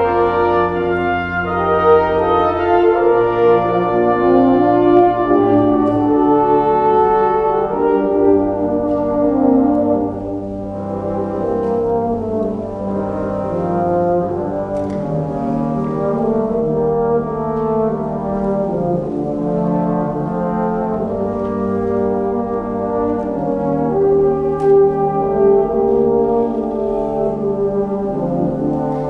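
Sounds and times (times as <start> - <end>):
wind band brass chords: 0.0 - 29.0.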